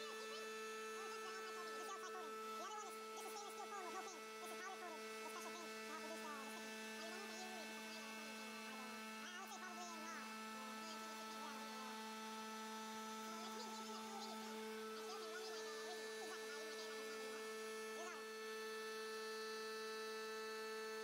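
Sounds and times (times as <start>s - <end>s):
machine spindle humming: 0.0s - 21.0s.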